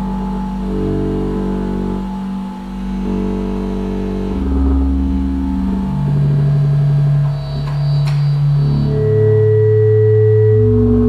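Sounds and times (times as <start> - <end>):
deep synthesizer bass note: 0.0 - 11.0
synthesizer low held notes: 0.0 - 11.0.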